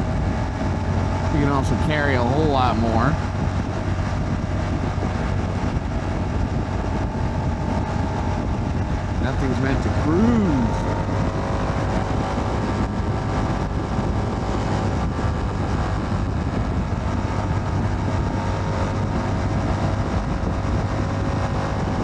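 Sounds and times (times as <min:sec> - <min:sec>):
motorcycle engine running: 0:00.0 - 0:22.0
road noise: 0:00.0 - 0:22.0
wind noise: 0:00.0 - 0:22.0.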